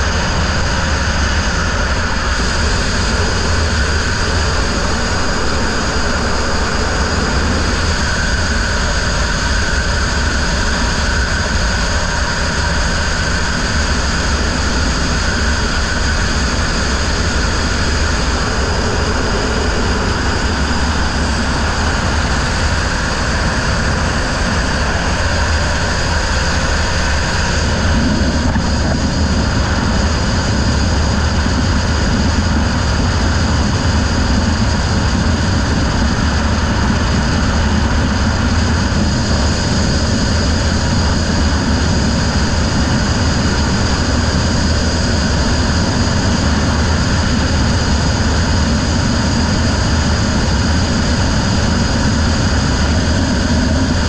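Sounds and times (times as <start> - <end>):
boat engine running at speed: 0.0 - 54.0
rushing wind: 0.0 - 54.0.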